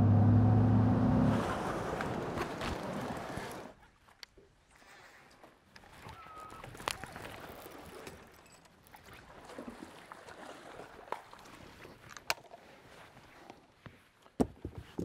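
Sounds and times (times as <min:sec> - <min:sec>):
quiet water lapping: 0:00.0 - 0:14.4.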